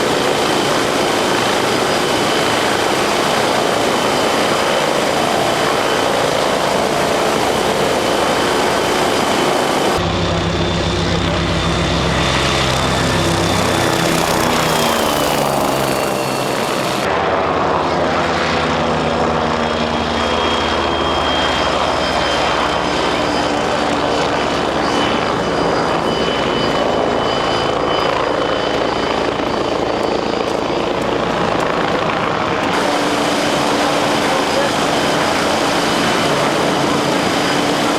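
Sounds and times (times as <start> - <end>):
helicopter engine whine: 0.0 - 37.9
helicopter rotor beat: 0.0 - 37.9.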